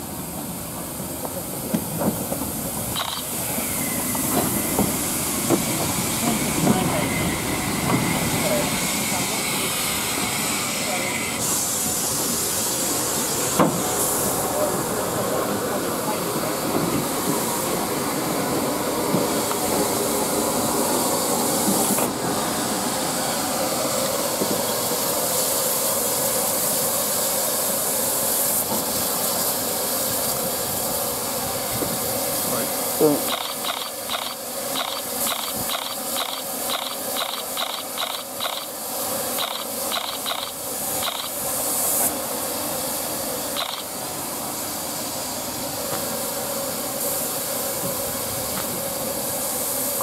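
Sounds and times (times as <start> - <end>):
steam hissing: 0.0 - 50.0
steam locomotive moving slowly: 0.0 - 50.0.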